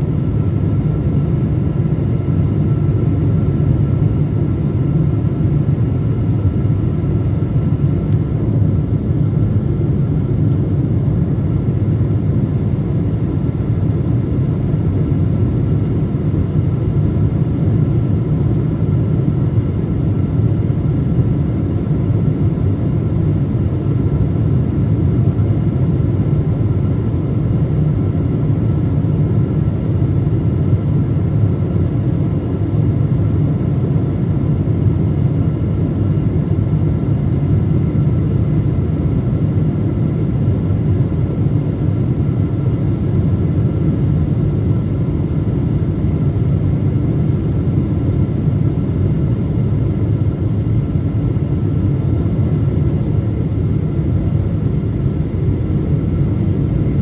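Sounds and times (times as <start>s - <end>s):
faint steady whine: 0.0s - 57.0s.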